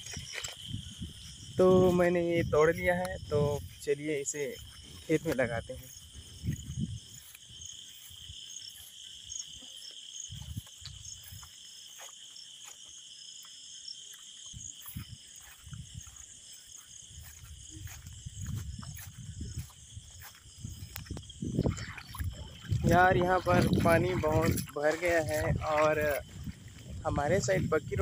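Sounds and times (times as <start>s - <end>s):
footsteps on soft wet ground: 0.0s - 28.0s
insects chirring: 0.0s - 28.0s.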